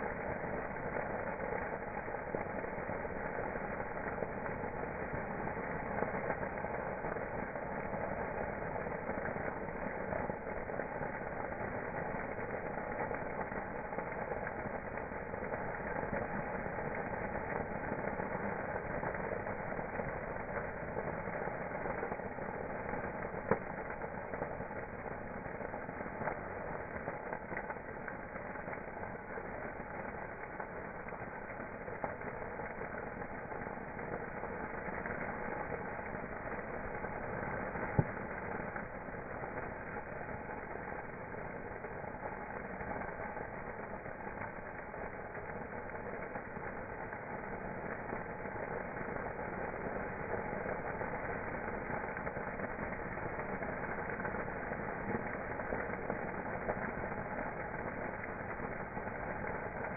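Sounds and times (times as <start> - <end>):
campfire burning: 0.0 - 59.9.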